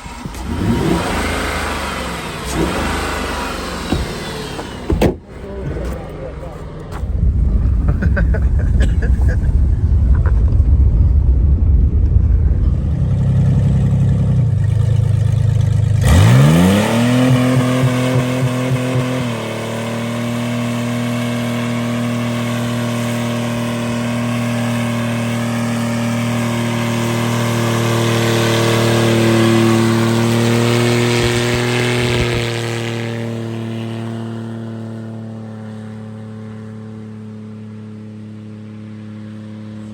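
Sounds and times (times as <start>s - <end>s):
car engine revving: 0.0s - 37.8s.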